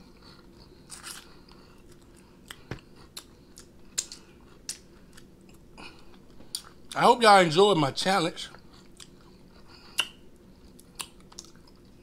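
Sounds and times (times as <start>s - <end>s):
chewing with mouth clicks: 0.0s - 7.0s, 8.5s - 12.0s.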